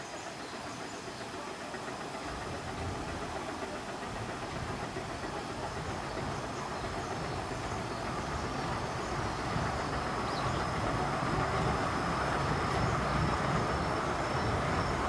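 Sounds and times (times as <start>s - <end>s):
train running onto steel bridge: 0.0s - 15.0s.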